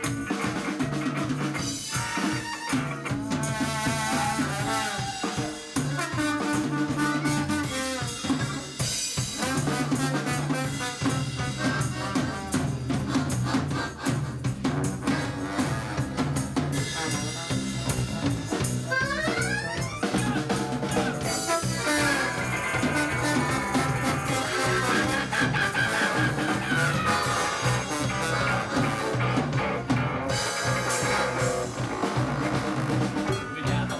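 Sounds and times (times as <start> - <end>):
accordion: 0.0 - 5.4, 6.0 - 33.9
drum kit: 0.0 - 33.9
electric guitar: 0.0 - 33.9
trombone: 0.0 - 33.9.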